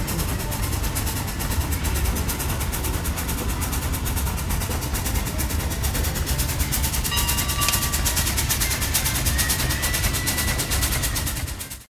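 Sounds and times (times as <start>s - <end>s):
steam pump chuffing: 0.0s - 11.9s.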